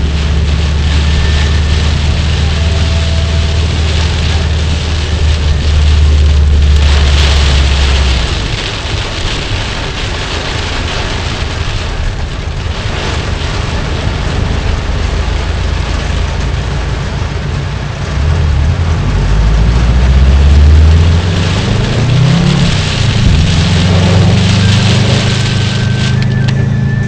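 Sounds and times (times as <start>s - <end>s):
low engine hum: 0.0s - 27.0s
rain and wet tyres hissing: 0.0s - 27.0s.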